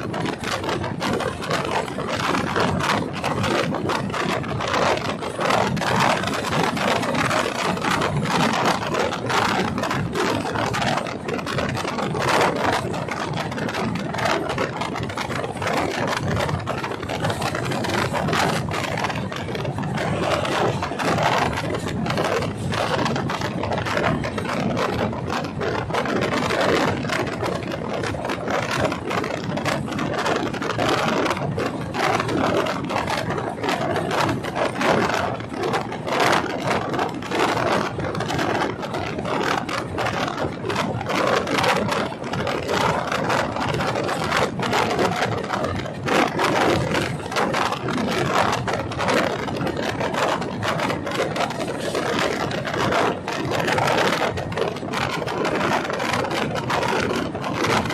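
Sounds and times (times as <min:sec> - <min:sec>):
train wheels rattling on rail: 0:00.0 - 0:57.9.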